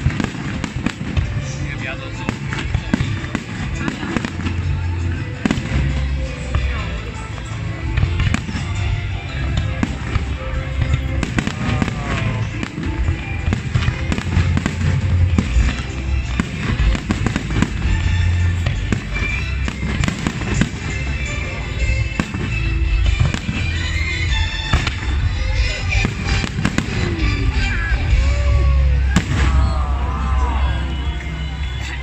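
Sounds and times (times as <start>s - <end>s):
fireworks bursting and crackling: 0.0s - 32.0s
music playing: 0.0s - 32.0s.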